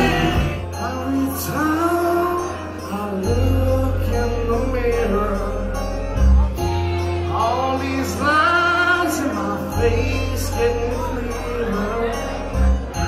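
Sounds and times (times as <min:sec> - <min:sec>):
guitar: 0:00.0 - 0:13.0
person singing: 0:00.0 - 0:13.0
steady bass: 0:00.0 - 0:13.0.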